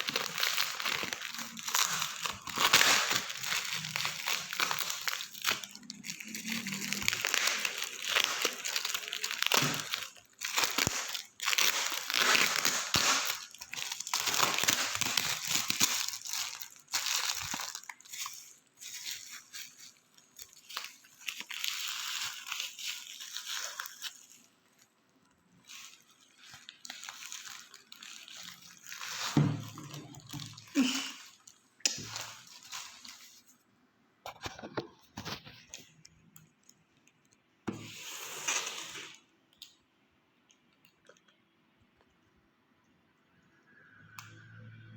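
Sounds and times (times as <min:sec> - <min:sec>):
plastic packaging crinkling and tearing: 0:00.0 - 0:33.6, 0:34.3 - 0:39.8.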